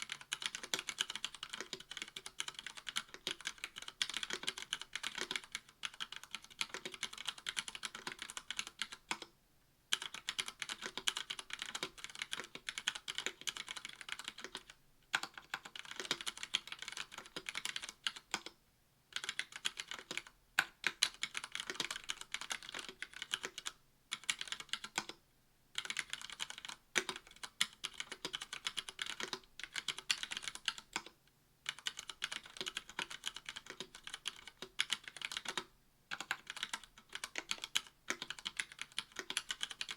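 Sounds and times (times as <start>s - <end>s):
fast mechanical keyboard typing: 0.0s - 9.3s, 9.9s - 18.5s, 19.2s - 25.2s, 25.8s - 31.1s, 31.7s - 39.9s.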